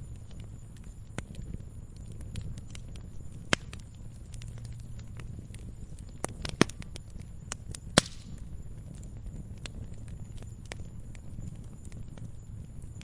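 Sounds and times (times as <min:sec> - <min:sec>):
campfire flames rumbling: 0:00.0 - 0:13.0
wood crackling and popping: 0:00.0 - 0:13.0.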